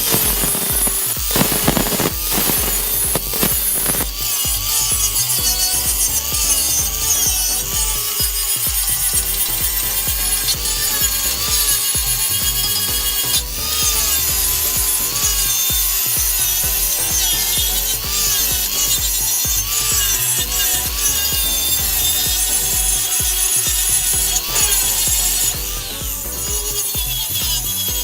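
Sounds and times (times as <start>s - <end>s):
background music: 0.0s - 28.0s
power tool cutting metal: 0.0s - 28.0s.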